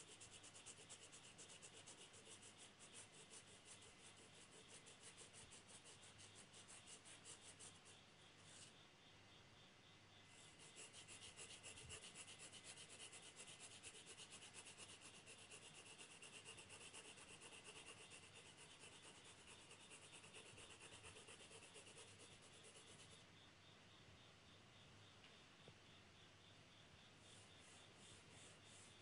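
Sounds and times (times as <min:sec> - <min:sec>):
pencil scratching on paper: 0:00.0 - 0:08.7, 0:10.3 - 0:23.2, 0:27.3 - 0:29.0.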